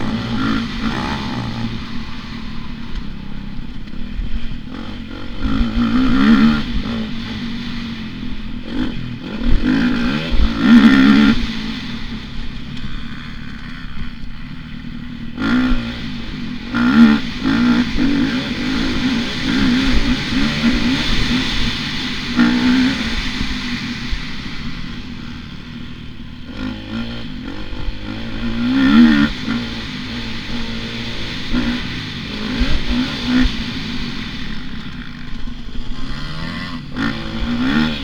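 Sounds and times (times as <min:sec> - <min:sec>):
motocross bike engine revving: 0:00.0 - 0:38.0.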